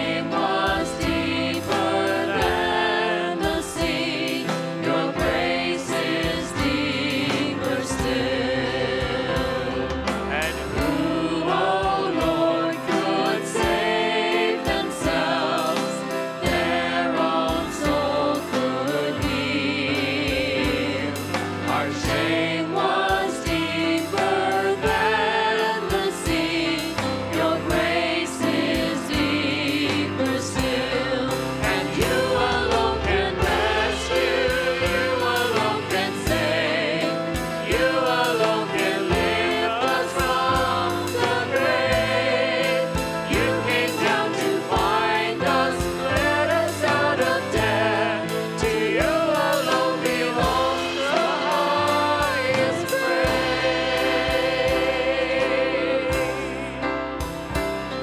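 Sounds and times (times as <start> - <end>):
instrumental accompaniment with beat: 0.0 - 58.0
voices singing worship song: 0.0 - 58.0.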